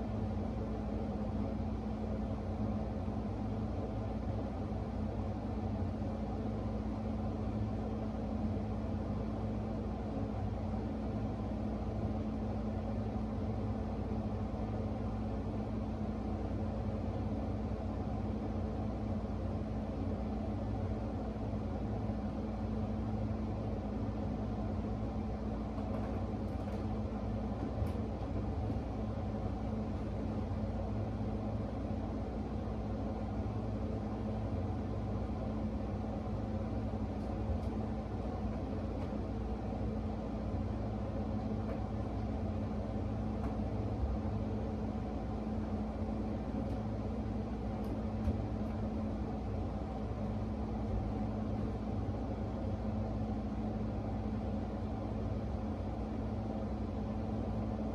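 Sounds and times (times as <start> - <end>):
low mechanical hum: 0.0 - 57.9.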